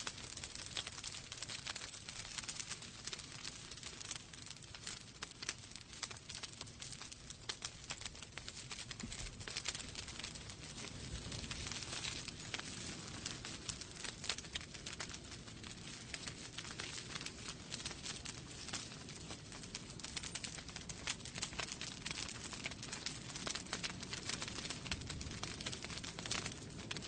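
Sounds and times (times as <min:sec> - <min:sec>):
low rush of flame: 0:00.0 - 0:27.0
wood fire crackling: 0:00.0 - 0:27.0.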